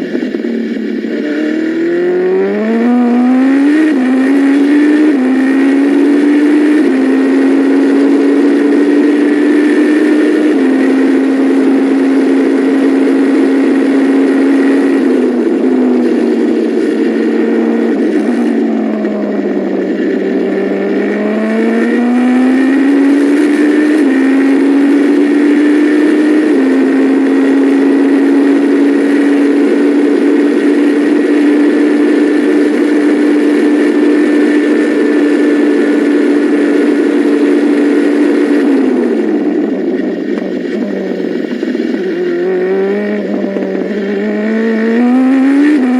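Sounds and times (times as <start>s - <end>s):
racing car engine at speed: 0.0s - 45.9s.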